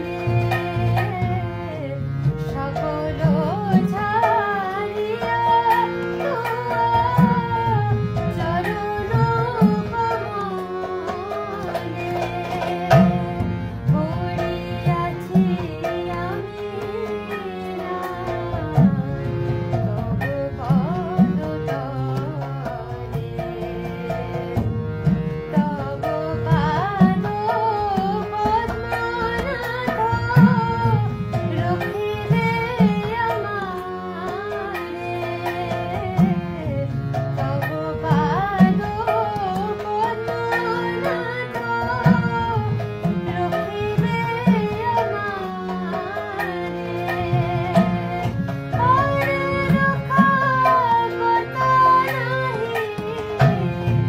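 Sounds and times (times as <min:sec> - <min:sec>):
hand drum rhythm: 0:00.0 - 0:19.1, 0:19.7 - 0:54.0
harmonium: 0:00.0 - 0:54.0
woman singing devotional song: 0:00.0 - 0:54.0.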